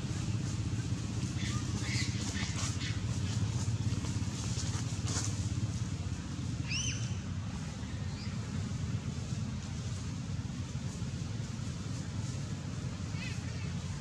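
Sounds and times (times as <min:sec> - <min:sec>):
motor vehicle engine rumbling: 0:00.0 - 0:14.0.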